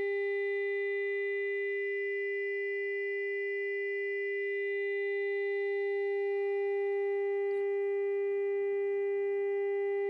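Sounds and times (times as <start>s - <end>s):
steady test tone from speaker: 0.0s - 10.0s.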